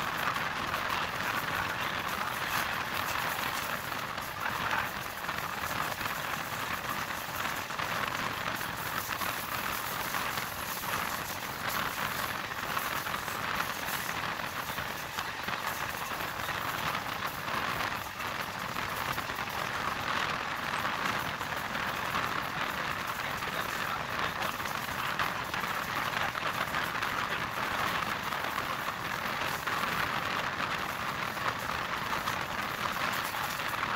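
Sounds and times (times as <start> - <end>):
moving train wind and wheel noise: 0.0 - 33.9.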